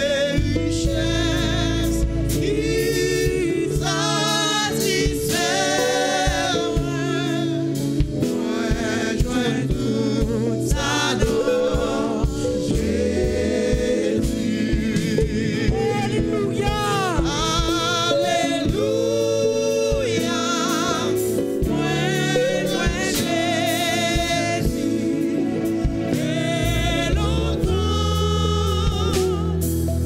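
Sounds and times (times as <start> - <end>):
group singing gospel song: 0.0 - 30.0.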